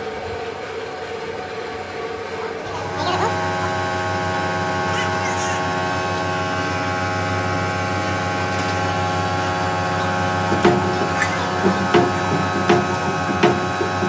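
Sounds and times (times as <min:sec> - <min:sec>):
electrical hum: 0:02.2 - 0:14.0.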